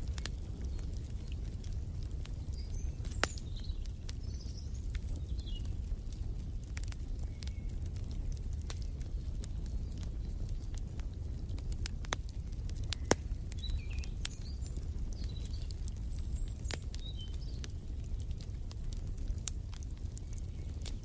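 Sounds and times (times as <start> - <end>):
wood fire crackling: 0.0 - 21.0
small birds chirping: 0.1 - 21.0.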